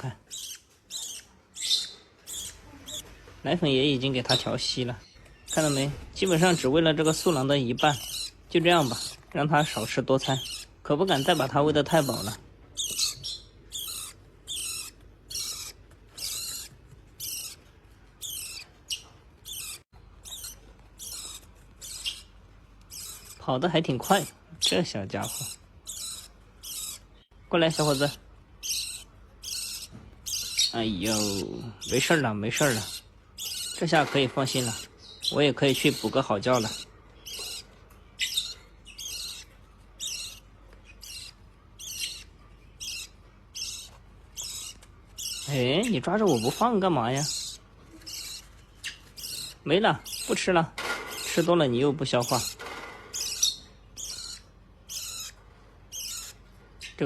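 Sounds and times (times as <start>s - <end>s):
parrot chick raspy begging calls: 0.3s - 3.0s, 5.4s - 50.4s, 52.2s - 57.0s.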